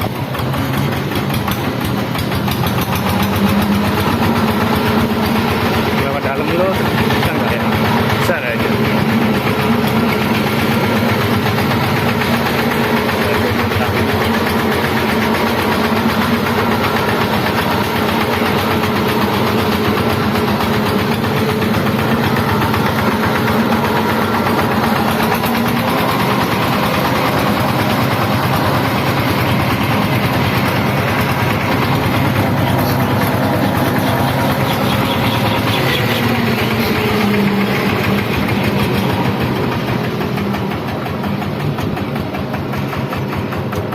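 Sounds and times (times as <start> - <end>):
diesel engine chugging: 0.0 - 43.9.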